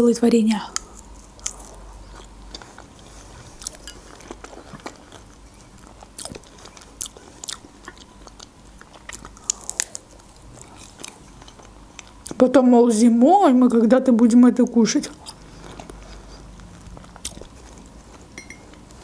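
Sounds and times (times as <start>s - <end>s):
biting and chewing strawberries: 0.8s - 12.4s, 15.0s - 19.0s.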